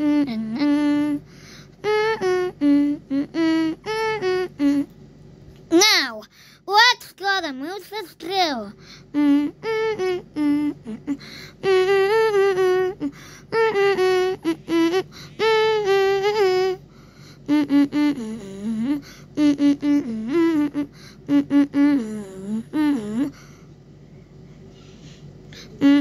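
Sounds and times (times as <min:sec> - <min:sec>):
high voice humming: 0:00.0 - 0:05.0, 0:05.6 - 0:23.7, 0:24.6 - 0:26.0.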